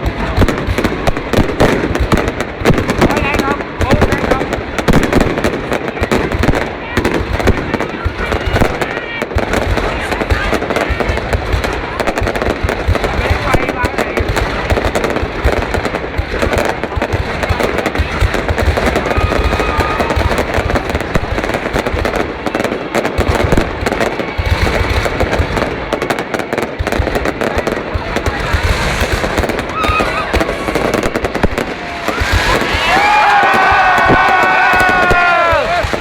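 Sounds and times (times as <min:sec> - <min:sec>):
faint voices of onlookers: 0:00.0 - 0:36.0
fireworks crackling pops: 0:00.0 - 0:36.0
fireworks deep booms: 0:00.0 - 0:36.0.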